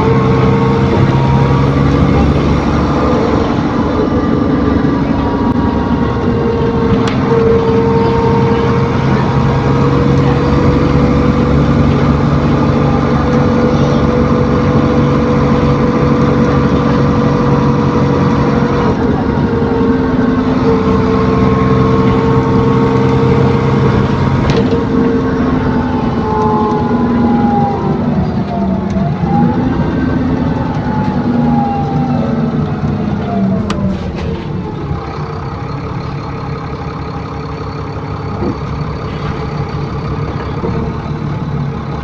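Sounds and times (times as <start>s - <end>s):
bus engine with steady whine: 0.0s - 42.0s.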